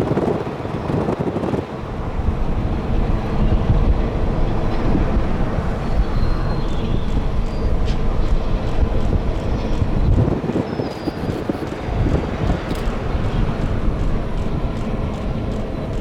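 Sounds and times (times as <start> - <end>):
rail clicks: 0.0 - 16.0
train wheels rumbling on rail: 0.0 - 16.0.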